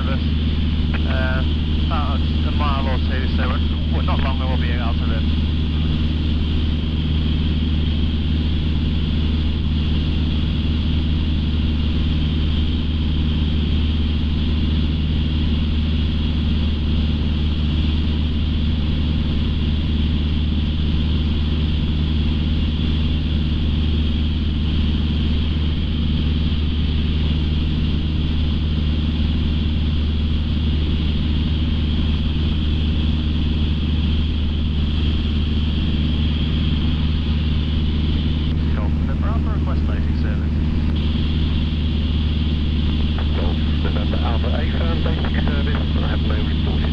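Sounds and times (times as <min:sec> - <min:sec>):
light aircraft engine droning: 0:00.0 - 0:46.9.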